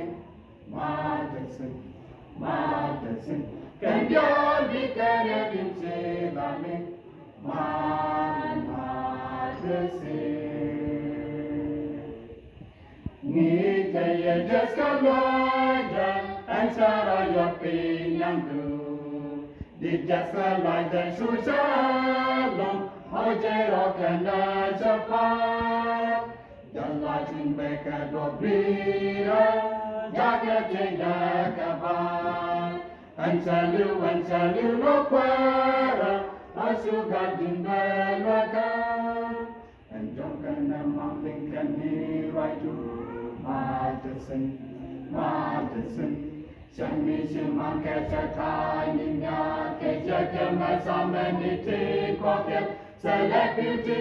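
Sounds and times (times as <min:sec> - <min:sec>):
choir singing a cappella: 0:00.0 - 0:54.0.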